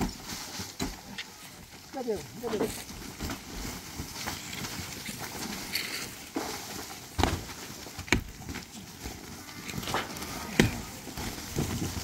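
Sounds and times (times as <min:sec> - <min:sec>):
tool scraping packed earth: 0:00.0 - 0:12.0.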